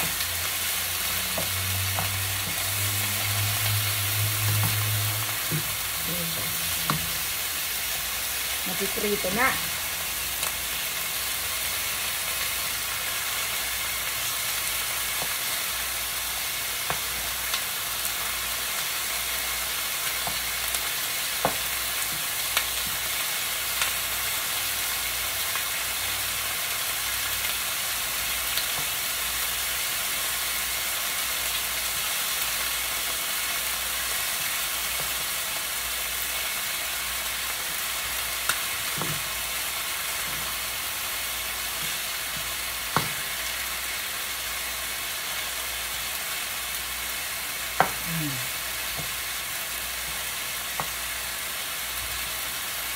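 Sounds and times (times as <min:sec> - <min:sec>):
chicken sizzling in oil: 0:00.0 - 0:52.9.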